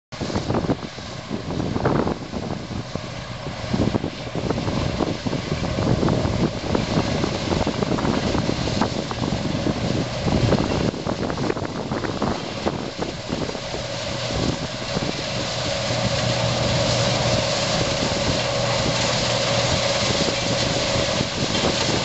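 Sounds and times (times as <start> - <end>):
combine harvester running: 0.2 - 22.0.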